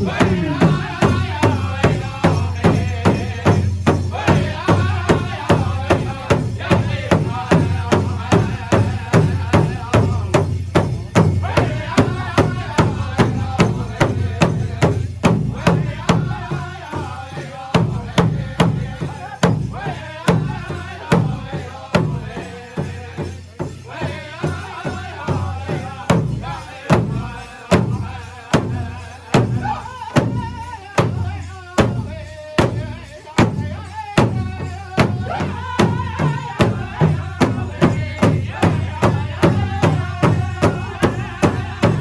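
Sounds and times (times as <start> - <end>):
group singing: 0.0 - 42.0
large hand drum beating: 0.0 - 42.0.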